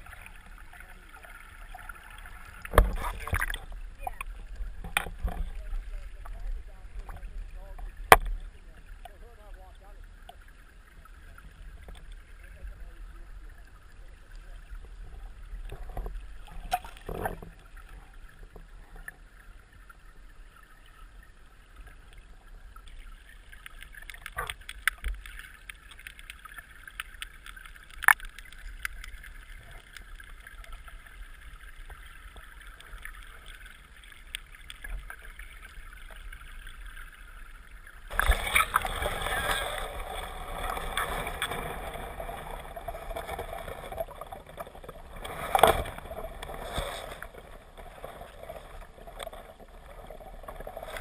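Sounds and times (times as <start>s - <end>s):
muffled underwater stream hiss: 0.0s - 51.0s
rush of water: 0.0s - 51.0s.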